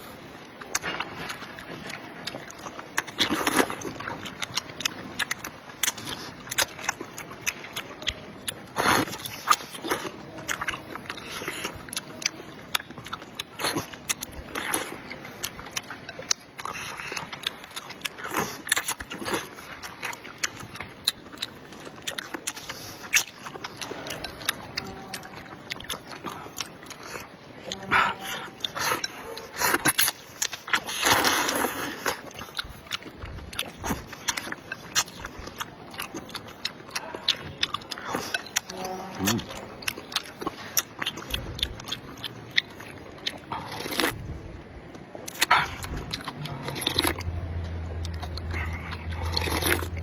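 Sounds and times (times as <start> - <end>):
person chewing: 0.0 - 50.0
slurping: 8.5 - 50.0.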